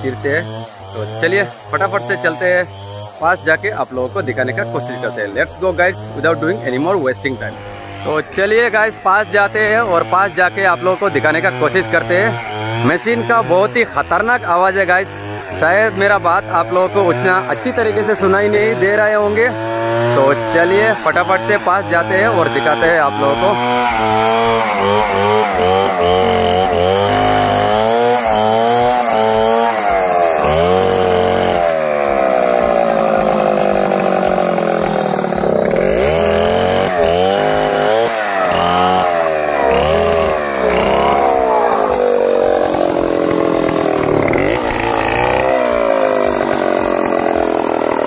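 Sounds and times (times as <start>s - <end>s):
chainsaw ripping a log: 0.0s - 48.0s.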